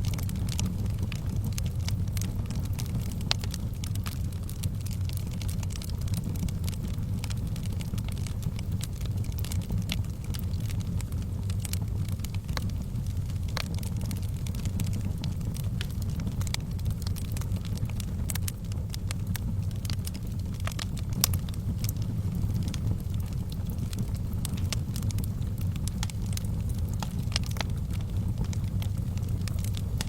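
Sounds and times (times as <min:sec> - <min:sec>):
fire crackling and popping: 0:00.0 - 0:30.0
low rumble of burning: 0:00.0 - 0:30.0.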